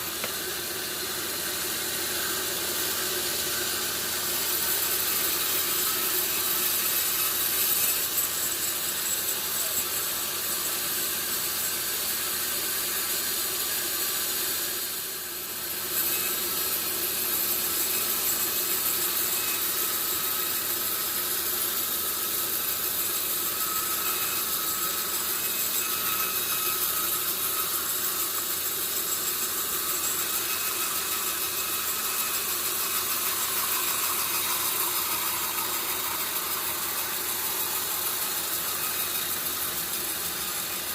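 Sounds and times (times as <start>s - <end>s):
saw cutting through log: 0.0s - 40.9s.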